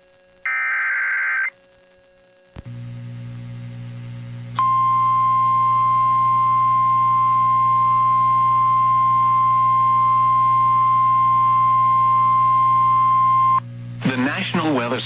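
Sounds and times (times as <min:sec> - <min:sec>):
low radio hum: 0:00.0 - 0:15.0.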